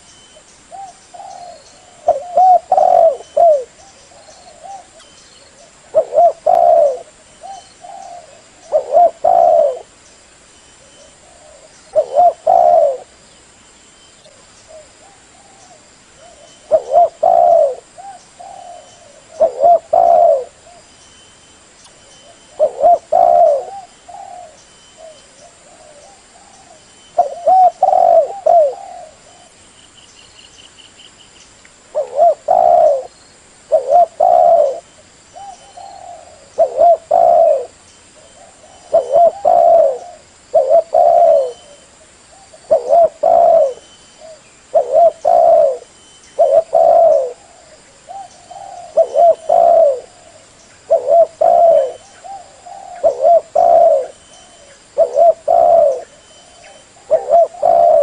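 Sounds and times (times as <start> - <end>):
dove cooing: 0.7 - 9.9, 10.8 - 13.2, 14.3 - 20.9, 22.2 - 29.6, 31.9 - 58.0.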